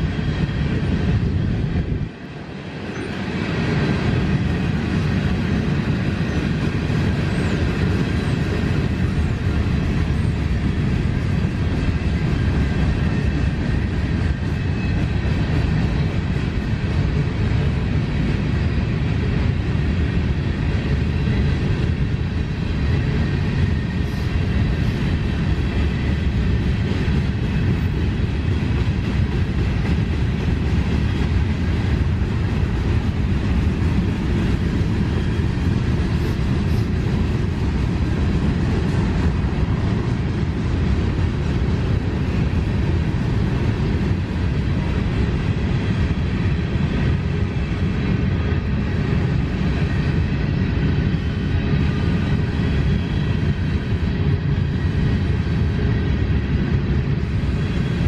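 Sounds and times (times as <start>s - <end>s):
steel wheels on rail: 0.0s - 58.0s.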